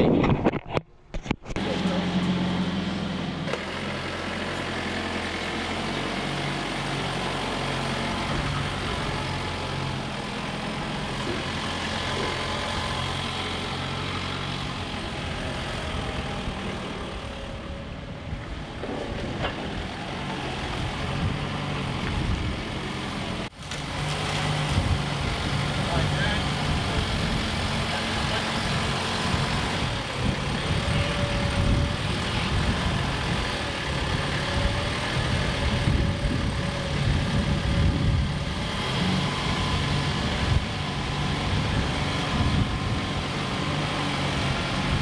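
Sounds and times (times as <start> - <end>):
forklift engine idling: 1.6 - 45.0.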